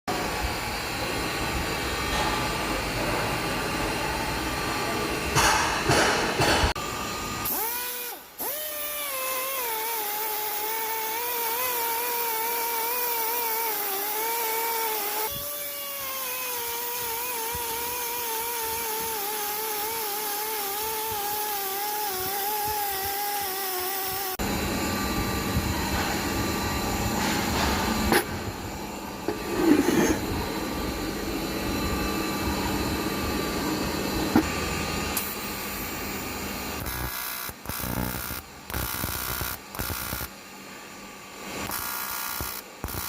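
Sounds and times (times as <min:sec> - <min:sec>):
rotary power tool whine: 0:00.1 - 0:43.0.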